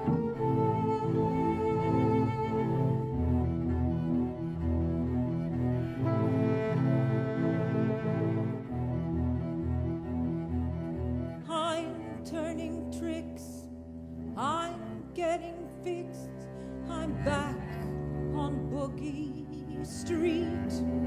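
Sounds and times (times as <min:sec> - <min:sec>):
low bowed strings: 0:00.0 - 0:21.0.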